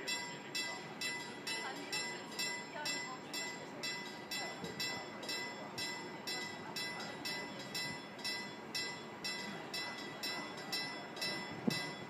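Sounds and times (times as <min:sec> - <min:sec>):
level crossing warning bell ringing: 0:00.0 - 0:12.0.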